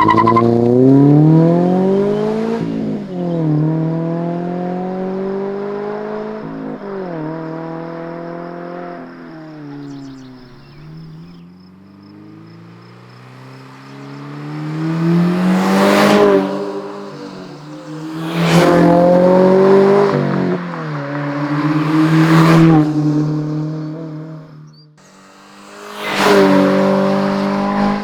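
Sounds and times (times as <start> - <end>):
car engine revving raspy: 0.0 - 9.0, 12.9 - 24.3, 25.0 - 28.0.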